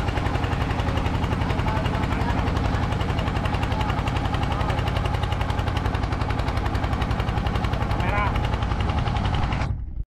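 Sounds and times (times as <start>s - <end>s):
boat engine chugging: 0.0s - 9.9s.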